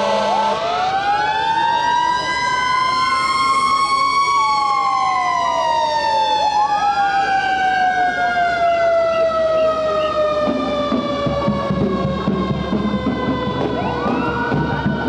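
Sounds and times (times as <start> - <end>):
fire engine sirens wailing: 0.0 - 15.0.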